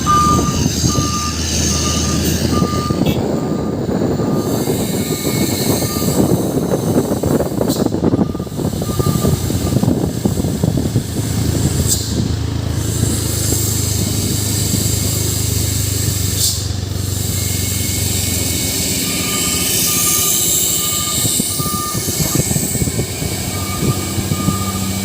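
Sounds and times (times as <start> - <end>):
truck diesel engine running: 0.0 - 25.0
air hissing: 3.2 - 25.0.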